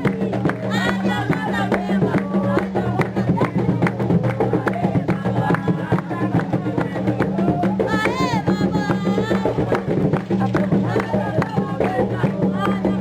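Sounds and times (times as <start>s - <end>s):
hand drums: 0.0s - 13.0s.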